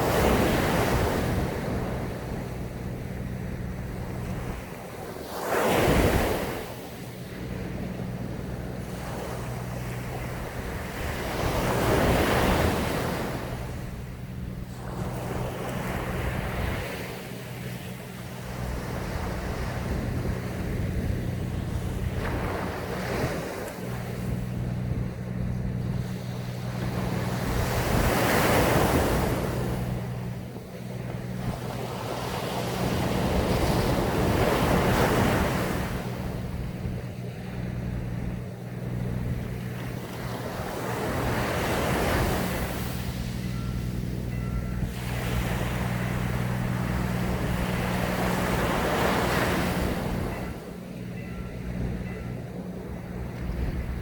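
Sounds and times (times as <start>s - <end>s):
low hum: 0.0s - 5.2s, 5.9s - 54.0s
waves breaking on beach: 0.0s - 54.0s.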